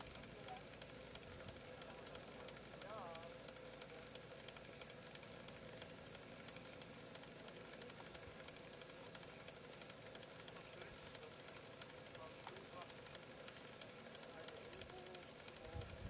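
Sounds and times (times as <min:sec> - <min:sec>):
small clicks: 0:00.0 - 0:16.0.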